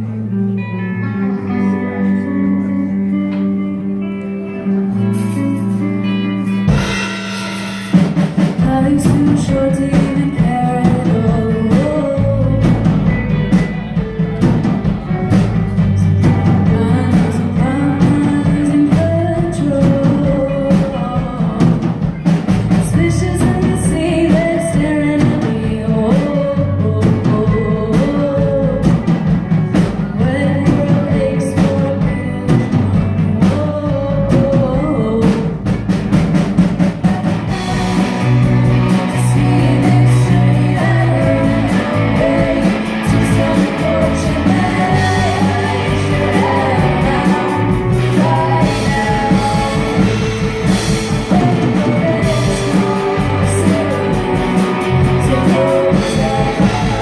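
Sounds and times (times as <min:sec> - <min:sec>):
live rock band playing: 0:00.0 - 0:57.0
drum kit: 0:01.6 - 0:57.0
lead vocalist singing: 0:08.4 - 0:35.9, 0:37.1 - 0:57.0.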